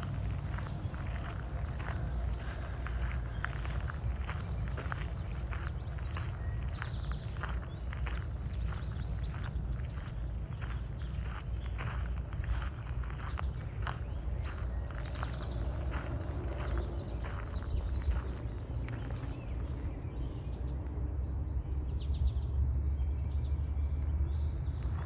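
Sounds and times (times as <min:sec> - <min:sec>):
footsteps crunching on path: 0:00.0 - 0:20.2, 0:24.7 - 0:25.0
steady low rumble: 0:00.0 - 0:23.0
songbirds singing: 0:00.0 - 0:25.0.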